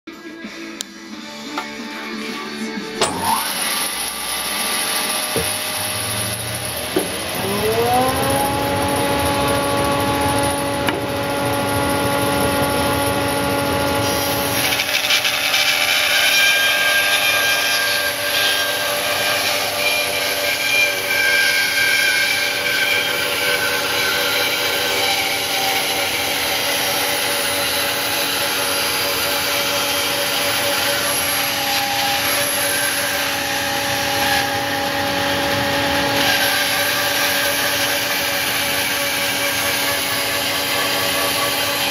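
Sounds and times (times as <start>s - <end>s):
bandsaw humming: 1.5s - 41.9s
bandsaw sawing wood: 3.0s - 41.9s.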